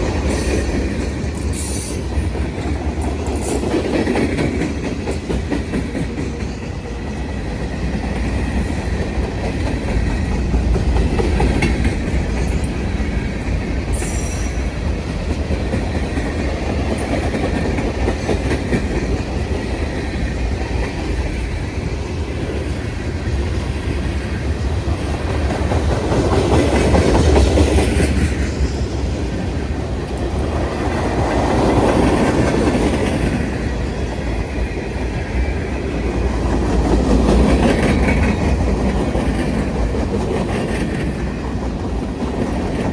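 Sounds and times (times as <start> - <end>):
freight train wheels clickety-clack: 0.0 - 42.9.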